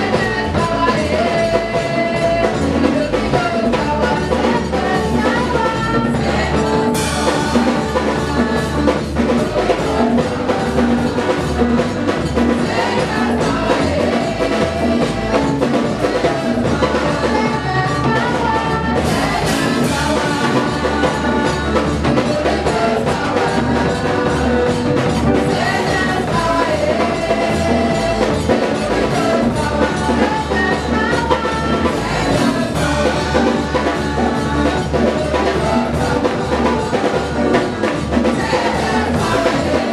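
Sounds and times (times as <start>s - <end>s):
drum kit and band: 0.0s - 39.9s
women singing gospel: 0.0s - 39.9s.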